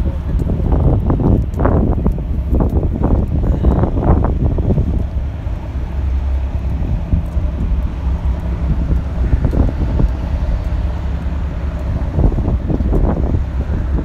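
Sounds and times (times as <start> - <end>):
low engine hum: 0.0 - 14.0
wind buffeting microphone: 0.0 - 14.0.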